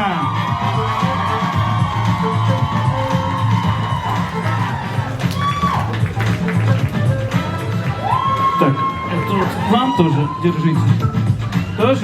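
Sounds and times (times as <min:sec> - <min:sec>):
audience cheering and whooping: 0:00.0 - 0:12.0
club music with bass pulse: 0:00.0 - 0:12.0.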